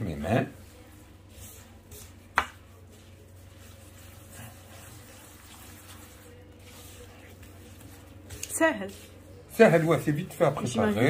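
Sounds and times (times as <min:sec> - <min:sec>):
hands mixing dough in bowl: 0:00.0 - 0:11.0.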